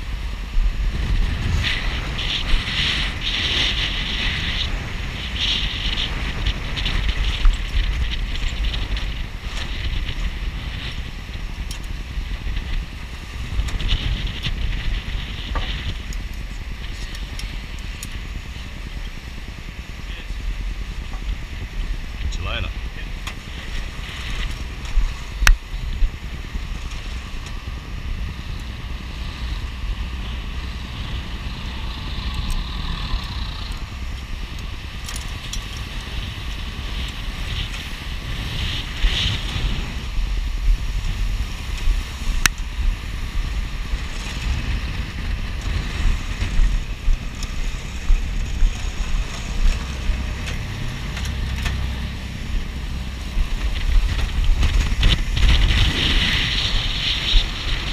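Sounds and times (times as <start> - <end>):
low engine rumble: 0.0 - 57.9
water rushing along hull: 0.0 - 57.9
wind buffeting microphone: 0.0 - 57.9.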